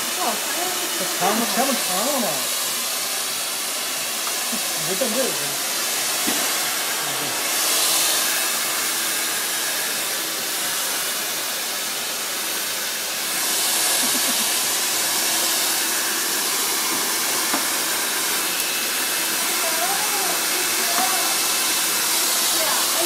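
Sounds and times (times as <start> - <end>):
hair dryer blowing: 0.0 - 23.0.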